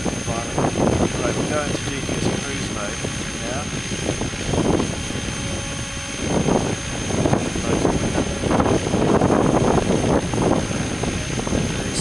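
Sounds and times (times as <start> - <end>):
model helicopter rotor and motor: 0.0 - 12.0
wind buffeting microphone: 0.0 - 12.0.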